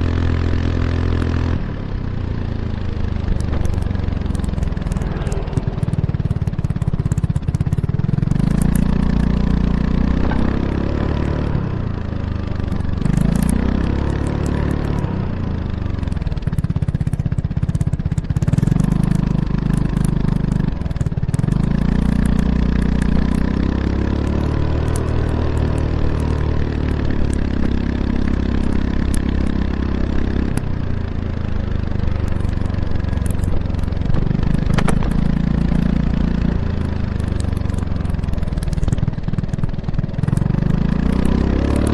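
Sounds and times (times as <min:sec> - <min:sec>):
scooter engine revving: 0:00.0 - 0:41.9.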